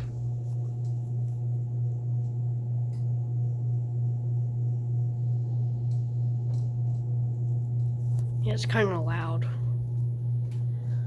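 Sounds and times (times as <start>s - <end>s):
ceiling fan humming: 0.0s - 11.0s
fan blade noise: 0.0s - 11.0s.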